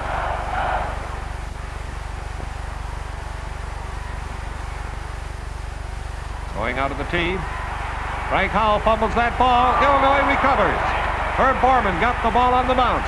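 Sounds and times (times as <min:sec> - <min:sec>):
film soundtrack hum and hiss: 0:00.0 - 0:13.0.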